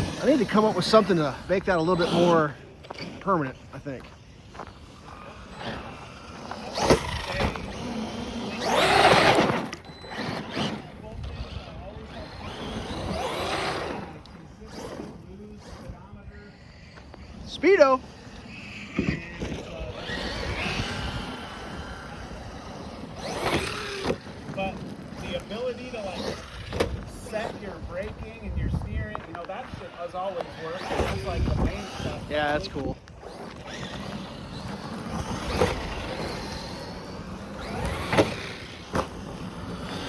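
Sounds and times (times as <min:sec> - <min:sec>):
rc truck motor whining: 0:00.0 - 0:40.0
tyres on ground: 0:00.0 - 0:40.0.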